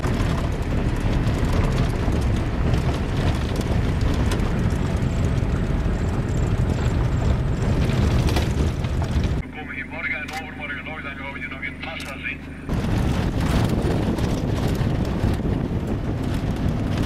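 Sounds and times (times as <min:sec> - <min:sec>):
wind buffeting microphone: 0:00.0 - 0:09.4, 0:12.7 - 0:17.0
vehicle rumble: 0:00.0 - 0:17.0.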